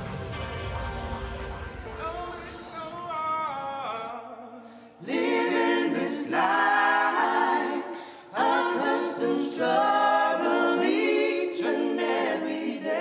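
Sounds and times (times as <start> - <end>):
gospel choir singing a cappella: 0.0 - 13.0.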